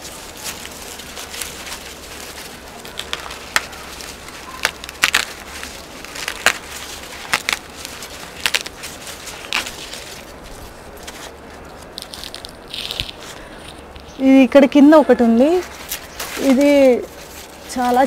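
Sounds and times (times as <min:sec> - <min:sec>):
dry corn husks crackling: 0:00.0 - 0:18.0.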